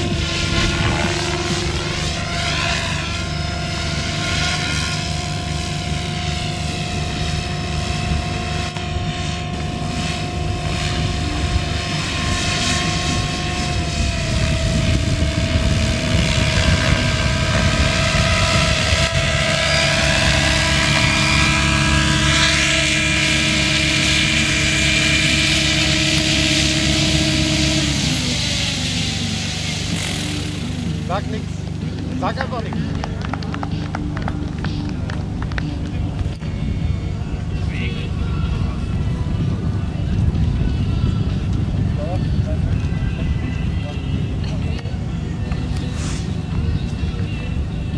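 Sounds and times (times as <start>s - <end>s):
model helicopter rotor and motor whine: 0.0s - 47.9s.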